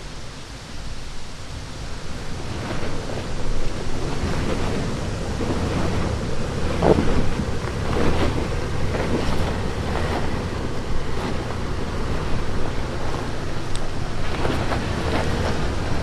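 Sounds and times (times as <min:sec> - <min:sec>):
off-road vehicle rumbling: 0:00.0 - 0:16.0
wind buffeting microphone: 0:00.0 - 0:16.0.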